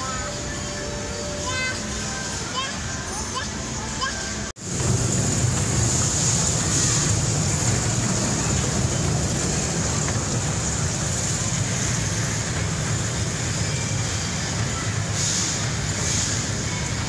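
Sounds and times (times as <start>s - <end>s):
shopping mall rumble and hiss: 0.0s - 17.0s.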